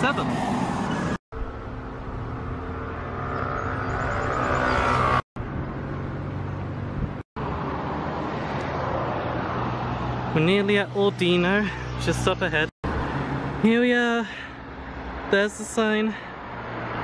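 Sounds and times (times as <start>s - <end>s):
cars driving past: 0.0s - 13.6s, 16.1s - 17.0s.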